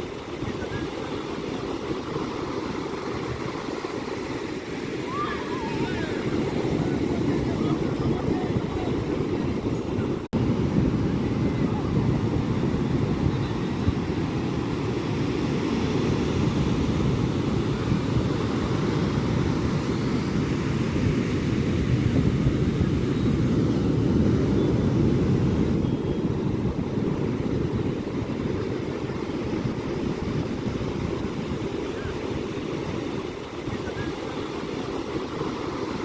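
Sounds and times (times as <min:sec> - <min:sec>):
waves breaking on a beach: 0:00.0 - 0:36.0
wind buffeting the microphone: 0:00.0 - 0:36.0.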